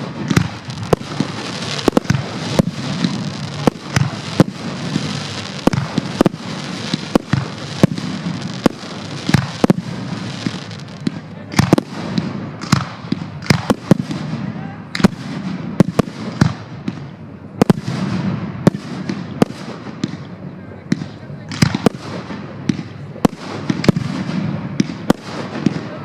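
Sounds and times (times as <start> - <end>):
continuous hiss and rumble: 0.0 - 26.0
fireworks bursting with sharp bangs: 0.0 - 26.0.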